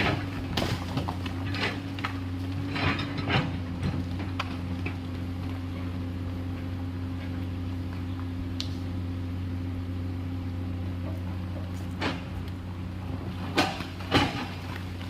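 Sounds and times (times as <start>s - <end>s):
excavator engine humming: 0.0s - 15.0s.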